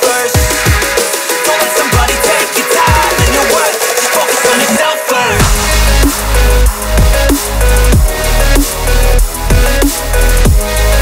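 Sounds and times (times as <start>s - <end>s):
electronic hip hop beat: 0.0s - 11.0s.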